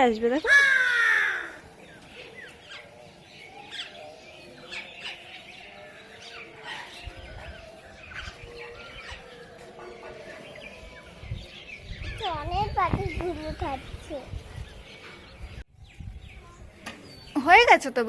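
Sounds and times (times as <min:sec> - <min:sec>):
flock of birds chirping: 0:00.0 - 0:18.0.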